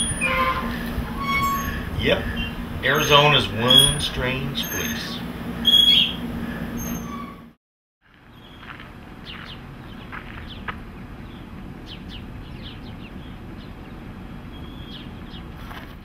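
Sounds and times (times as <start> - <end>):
birds chirping: 0.0 - 7.3, 8.3 - 15.6
low outdoor rumble: 0.0 - 16.0.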